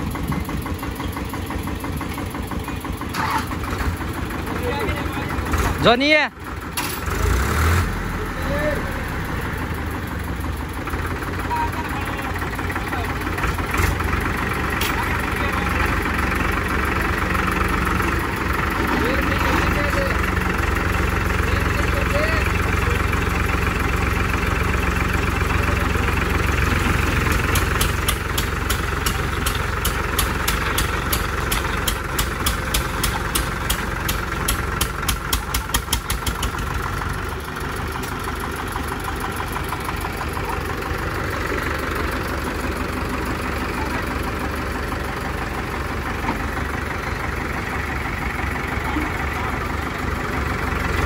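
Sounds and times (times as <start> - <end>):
diesel tractor engines under load: 0.0 - 51.0.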